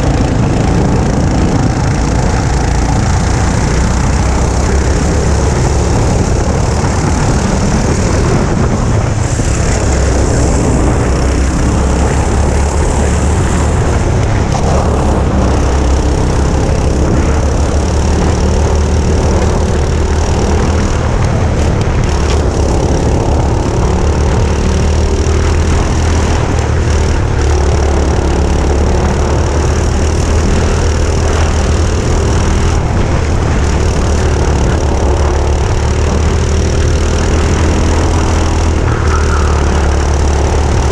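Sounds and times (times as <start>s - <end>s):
go-kart engines racing: 0.0s - 40.9s.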